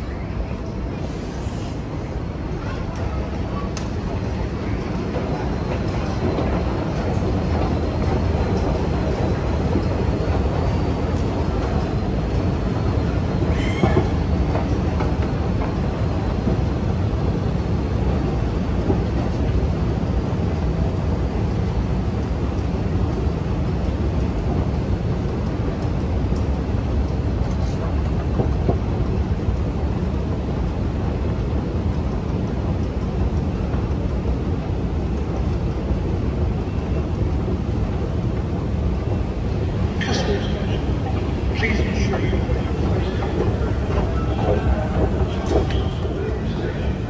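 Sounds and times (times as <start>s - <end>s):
hum of station hall: 0.0s - 47.0s
escalator rumbling: 2.0s - 47.0s.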